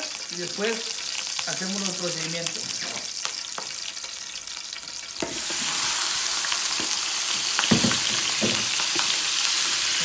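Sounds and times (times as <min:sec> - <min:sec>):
meat sizzling in hot fat: 0:00.0 - 0:10.0.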